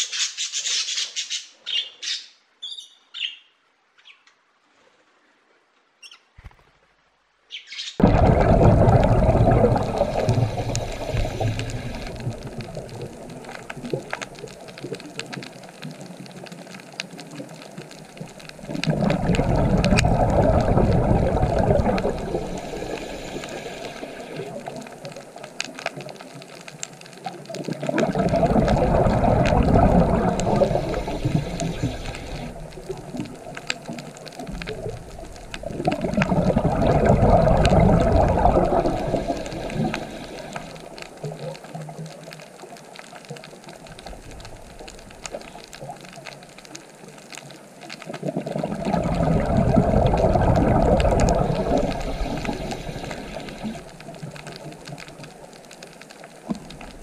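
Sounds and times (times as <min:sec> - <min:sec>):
rushing water: 0:04.6 - 0:57.0.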